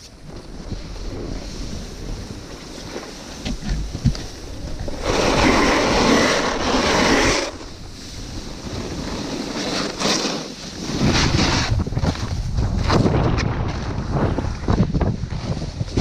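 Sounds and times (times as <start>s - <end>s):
snowboard scraping on snow: 0.0s - 16.0s
wind rushing over microphone: 0.0s - 16.0s.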